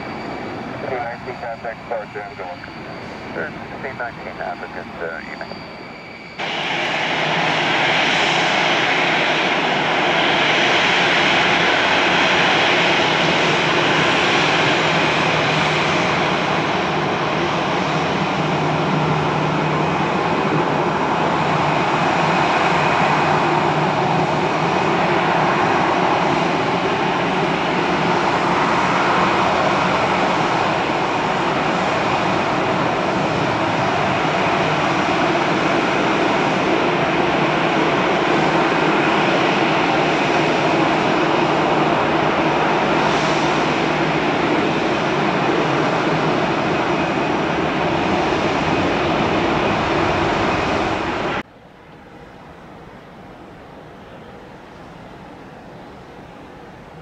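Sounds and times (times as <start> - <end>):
jet engines running: 0.0 - 51.5.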